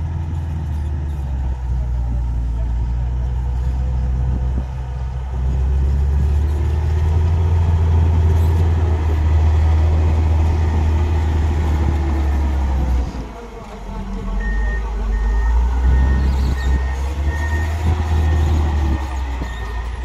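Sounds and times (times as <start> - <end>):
diesel engine running under load: 0.0 - 20.0
grader blade pushing dirt: 0.0 - 20.0.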